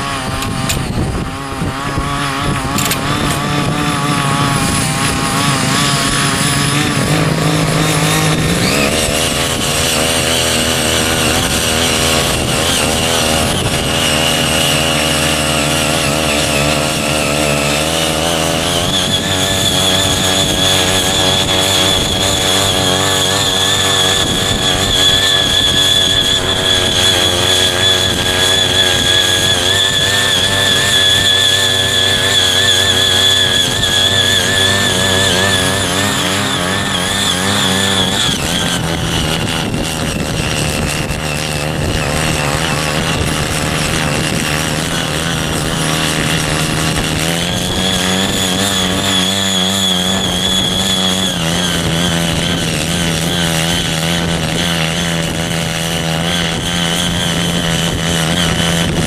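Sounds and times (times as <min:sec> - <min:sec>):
cultivator engine running: 0:00.0 - 0:59.0
tines digging into soil: 0:00.0 - 0:59.0.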